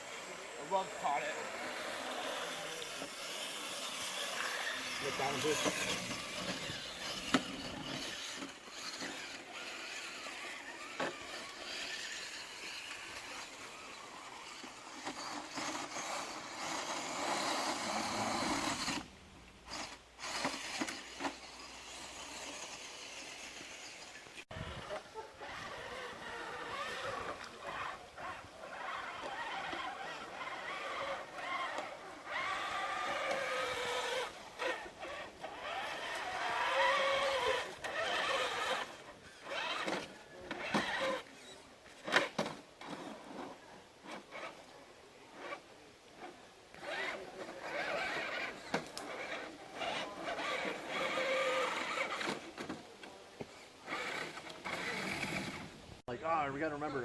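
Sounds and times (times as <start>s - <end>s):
electric motor and gears whining: 0.0s - 44.7s, 46.2s - 53.2s, 53.8s - 55.8s.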